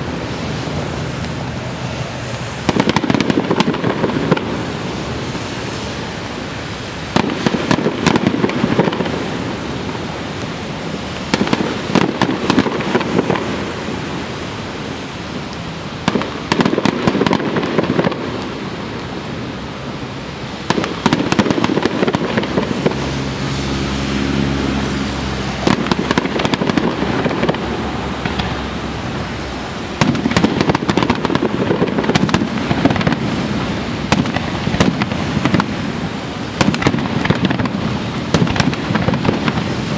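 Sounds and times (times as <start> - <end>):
fireworks bursting: 0.0 - 5.2, 7.0 - 14.3, 15.4 - 24.0, 24.8 - 39.9.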